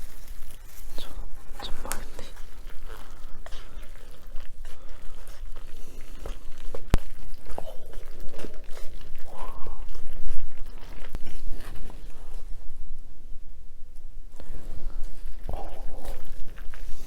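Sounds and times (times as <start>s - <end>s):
chewing food: 0.0s - 12.8s, 14.3s - 17.0s.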